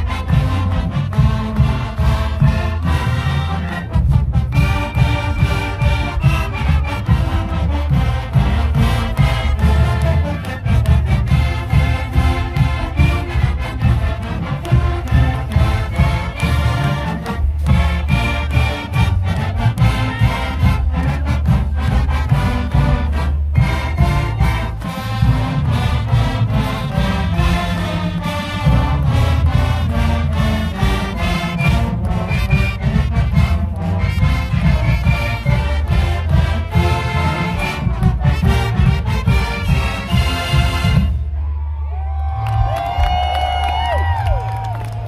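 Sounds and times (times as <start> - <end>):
drumline and bass drums: 0.0 - 45.0
marching band playing: 0.0 - 45.0.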